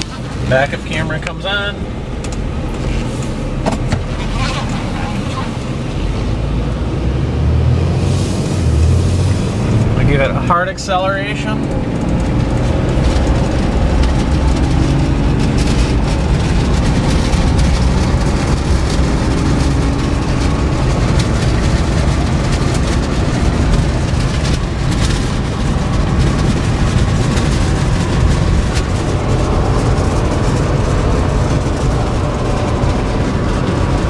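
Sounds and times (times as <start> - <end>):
diesel pickup engine accelerating: 0.0 - 34.0
wind noise on microphone: 1.8 - 34.0.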